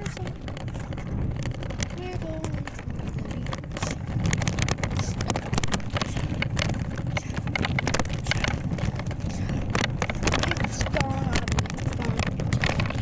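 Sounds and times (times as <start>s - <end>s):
bicycle clicks and rattles: 0.0s - 13.0s
wind buffeting microphone: 0.0s - 13.0s.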